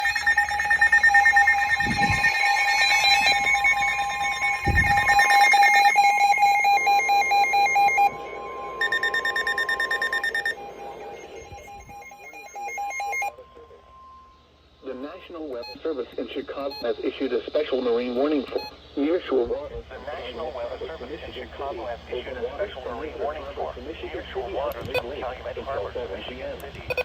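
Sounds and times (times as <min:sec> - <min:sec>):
steady electronic tone: 0:00.0 - 0:23.1
weather radio alarms beeping: 0:00.0 - 0:27.0.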